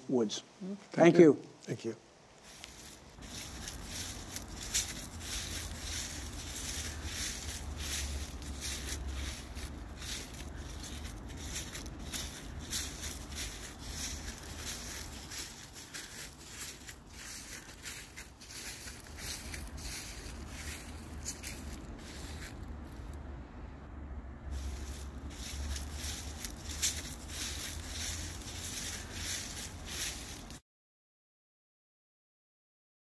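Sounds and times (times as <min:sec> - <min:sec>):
steady rustling hiss: 0:00.0 - 0:23.8, 0:24.4 - 0:30.6
low rumble: 0:02.6 - 0:30.6.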